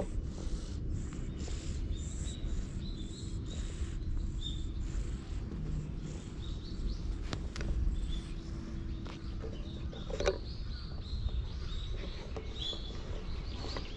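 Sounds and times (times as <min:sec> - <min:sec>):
small birds chirping: 0:00.0 - 0:13.9
steady low rumble: 0:00.0 - 0:13.9.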